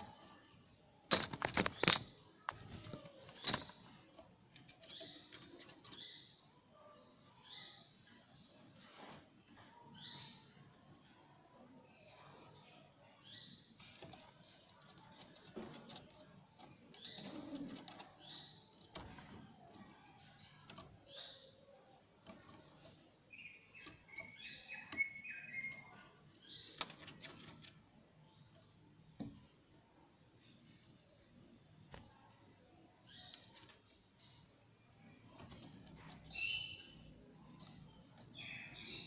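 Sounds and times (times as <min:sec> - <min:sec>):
bird chirping and warbling: 0:00.0 - 0:10.6, 0:11.9 - 0:29.6, 0:30.4 - 0:39.0.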